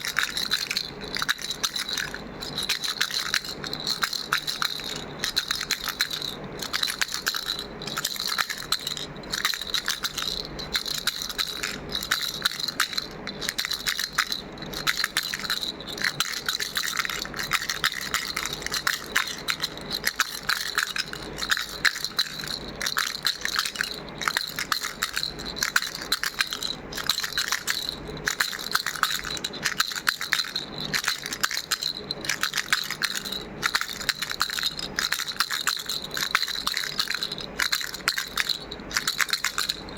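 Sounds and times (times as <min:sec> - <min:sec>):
plastic ball rattle shaken: 0:00.0 - 0:39.9.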